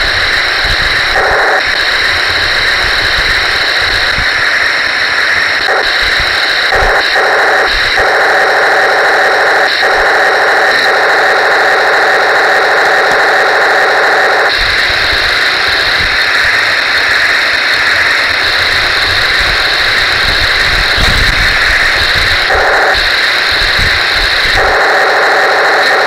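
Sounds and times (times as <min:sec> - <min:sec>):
model tank mechanical whine: 0:00.0 - 0:26.0.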